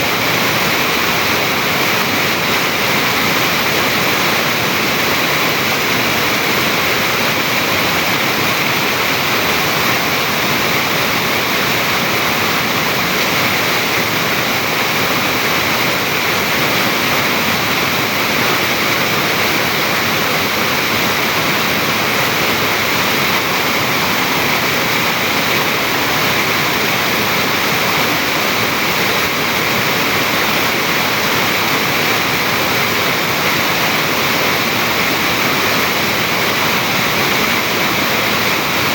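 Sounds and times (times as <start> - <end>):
stream water rushing over rock: 0.0 - 38.9.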